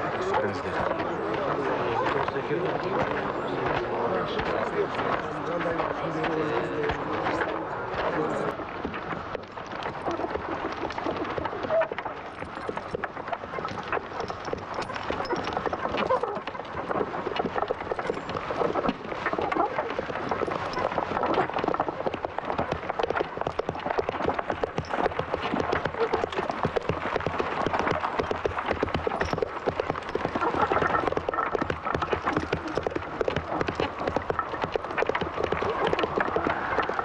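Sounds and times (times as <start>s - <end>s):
horse hooves galloping: 0.0s - 37.0s.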